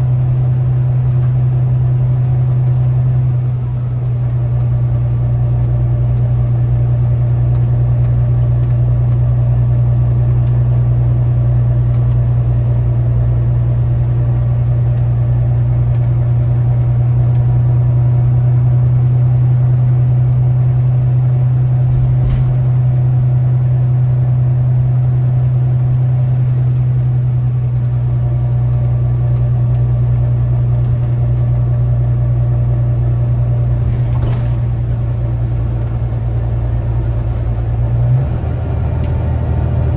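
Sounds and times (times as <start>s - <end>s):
bus engine humming: 0.0s - 39.9s.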